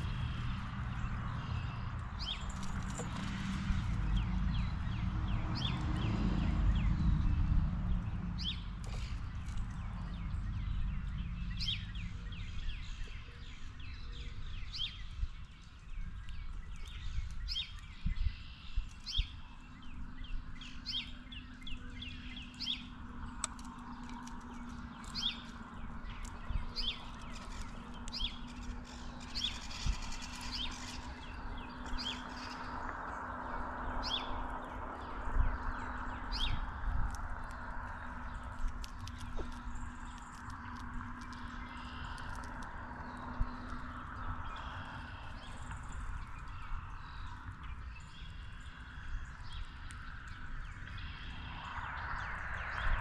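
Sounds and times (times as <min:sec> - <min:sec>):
birds chirping: 0:00.0 - 0:53.0
low outdoor rumble: 0:00.0 - 0:53.0.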